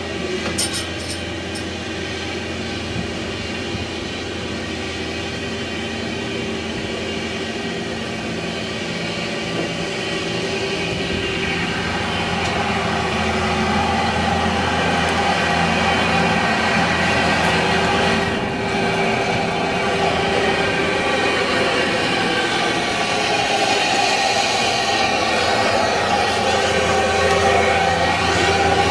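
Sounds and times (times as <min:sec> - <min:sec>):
excavator engine and hydraulics: 0:00.0 - 0:28.9.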